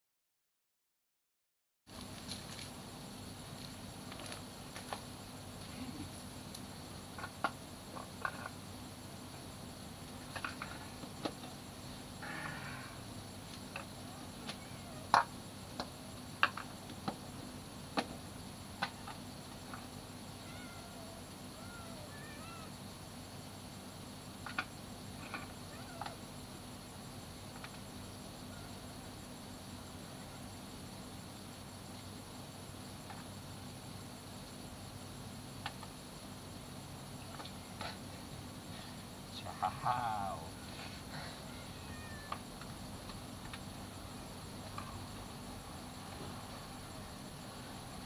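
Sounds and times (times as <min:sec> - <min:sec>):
high insect-like buzz: 0:01.9 - 0:48.0
low steady hum: 0:01.9 - 0:48.0.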